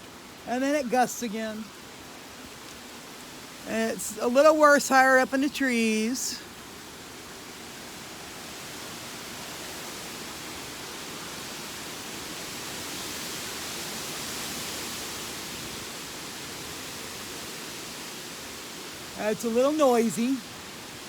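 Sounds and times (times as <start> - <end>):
wind rushing through treetops: 0.0 - 21.0.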